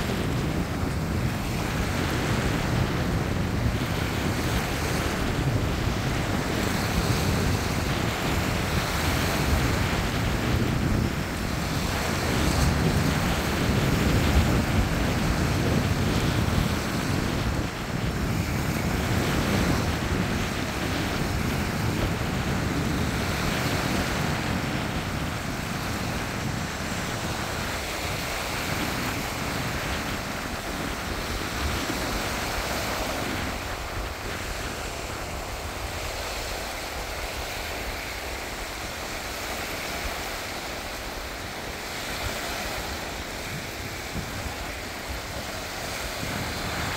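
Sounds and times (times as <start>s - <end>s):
surf washing up sandy beach: 0.0s - 46.9s
wind buffeting microphone: 0.0s - 46.9s.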